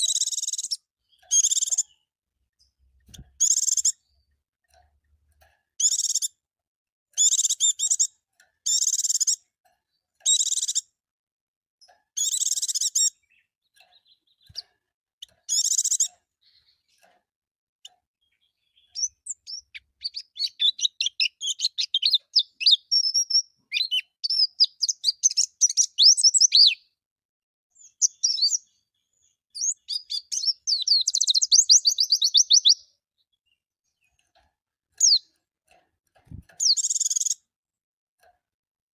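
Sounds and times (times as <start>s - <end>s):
bird twittering song: 0.0s - 5.2s, 5.8s - 6.4s, 7.2s - 10.9s, 11.8s - 17.1s, 17.8s - 27.0s, 27.7s - 34.4s, 35.0s - 35.4s, 36.3s - 37.5s.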